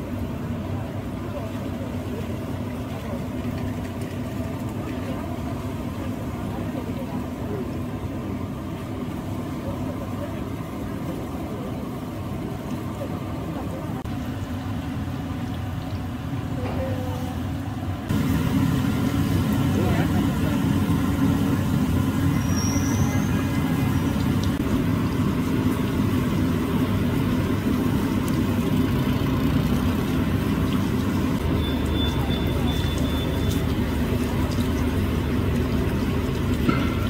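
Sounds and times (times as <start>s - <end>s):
oil bubbling in a deep fryer: 0.0s - 37.0s.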